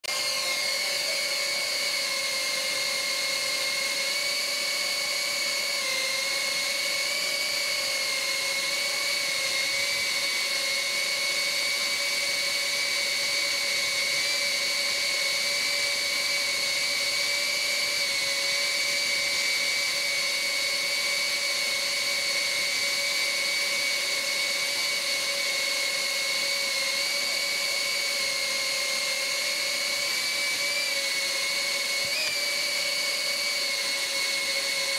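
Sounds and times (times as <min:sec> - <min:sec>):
drone propellers whining: 0:00.0 - 0:34.9.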